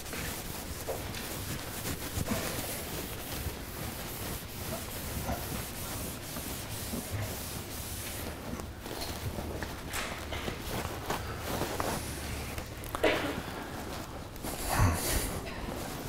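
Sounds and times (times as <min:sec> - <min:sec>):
rubbing and scrubbing: 0:00.0 - 0:16.0.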